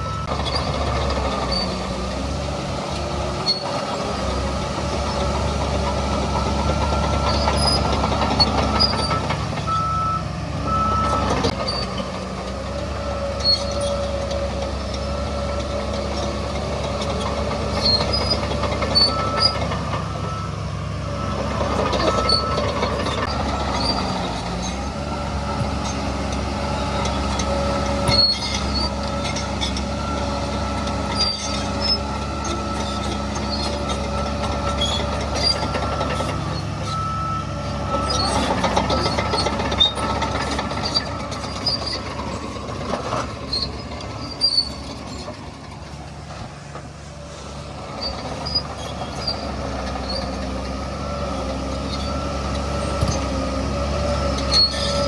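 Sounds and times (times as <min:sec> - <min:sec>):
diesel engines of earthmoving machinery: 0:00.0 - 0:55.0.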